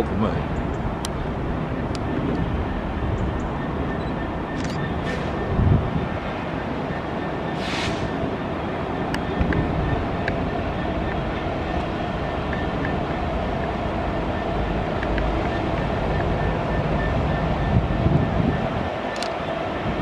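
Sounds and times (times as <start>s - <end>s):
freight locomotive rumbling past: 0.0s - 20.0s.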